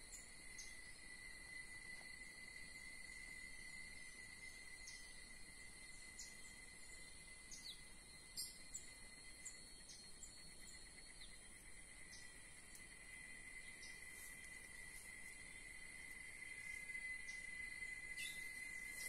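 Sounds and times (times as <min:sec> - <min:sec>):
faint insect drone: 0:00.0 - 0:19.0.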